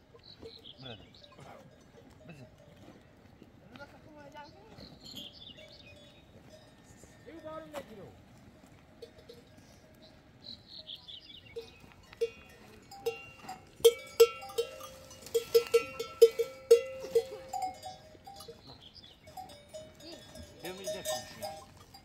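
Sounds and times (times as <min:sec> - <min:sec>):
livestock bells clanking: 0:00.0 - 0:22.0.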